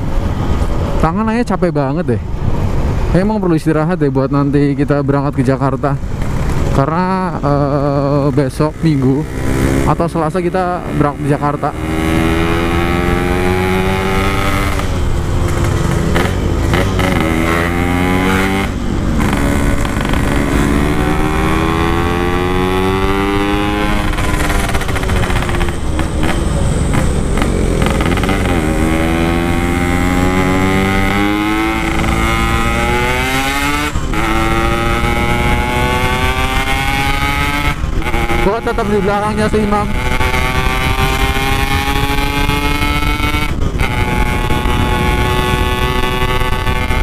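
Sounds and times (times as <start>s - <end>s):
two-stroke motorcycle engine revving: 6.2s - 47.0s.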